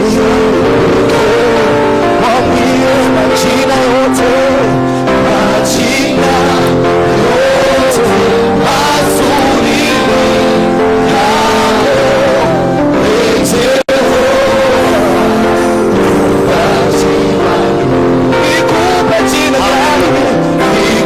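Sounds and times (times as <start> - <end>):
sustained held chords: 0.0 - 21.0.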